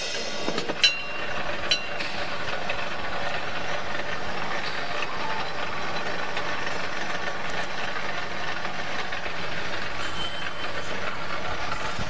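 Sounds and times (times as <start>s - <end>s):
wire stripping machine running: 0.0s - 12.0s.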